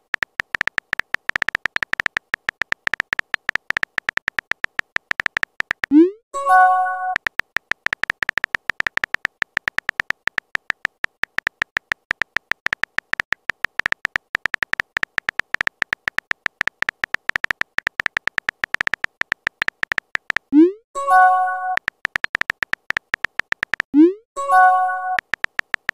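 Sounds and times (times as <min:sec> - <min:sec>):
keyboard typing clicks: 0:00.0 - 0:25.9.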